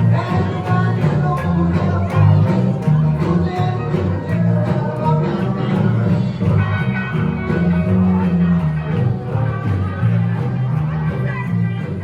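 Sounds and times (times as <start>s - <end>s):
upbeat music with strong bass: 0.0s - 12.0s.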